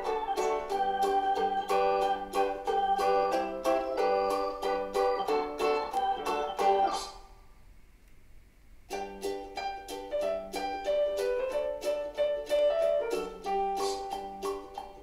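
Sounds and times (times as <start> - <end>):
plucked string music: 0.0 - 7.1, 8.9 - 15.0.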